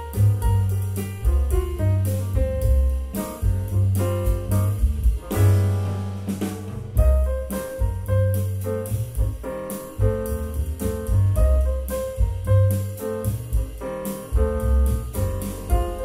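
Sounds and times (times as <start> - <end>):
drum kit with cymbals: 0.0 - 16.0
jazz piano: 0.0 - 16.0
walking double bass: 0.0 - 16.0.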